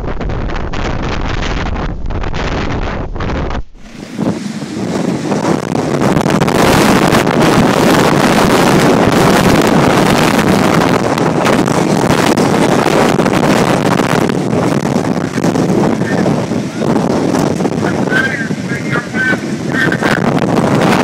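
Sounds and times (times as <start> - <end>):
wind gusts buffeting microphone: 0.0 - 21.0.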